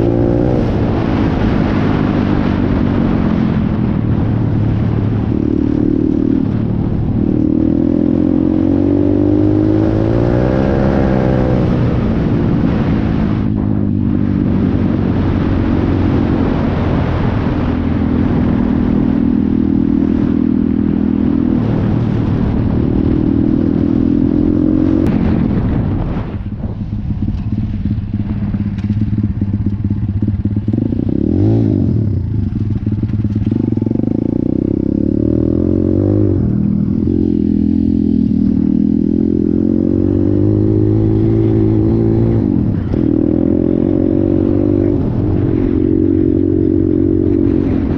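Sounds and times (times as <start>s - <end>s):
heavy wind noise: 0.0s - 47.9s.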